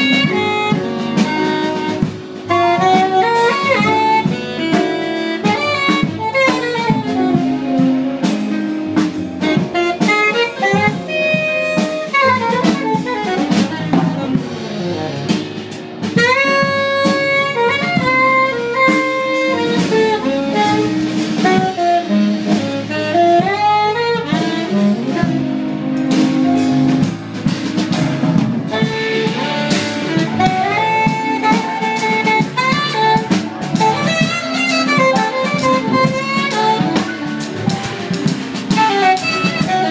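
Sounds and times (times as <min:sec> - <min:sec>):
drum kit: 0:00.0 - 0:39.9
saxophone melodic runs: 0:00.0 - 0:39.9.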